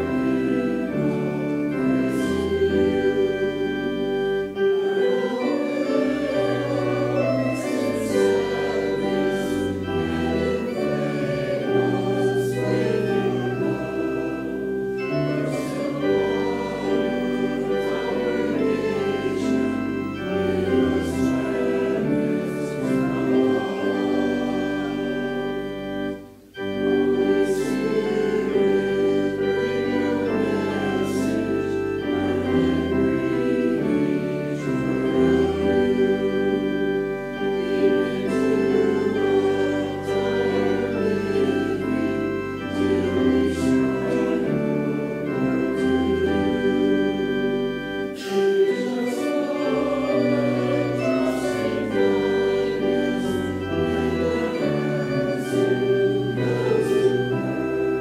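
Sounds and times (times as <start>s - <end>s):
church organ chords: 0.0s - 58.0s
congregation singing a hymn: 0.0s - 58.0s.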